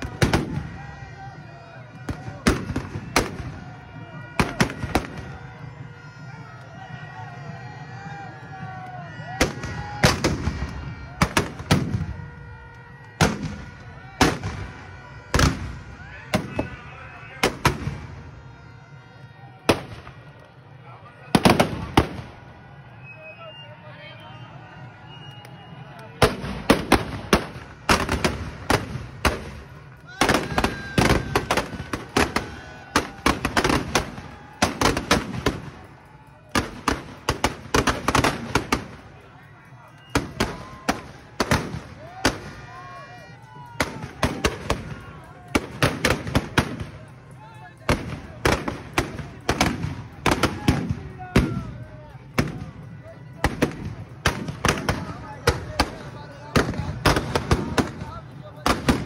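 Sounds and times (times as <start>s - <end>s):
firecrackers banging: 0.0s - 1.0s, 1.9s - 18.4s, 19.6s - 20.5s, 21.3s - 22.6s, 25.4s - 43.0s, 43.6s - 59.0s.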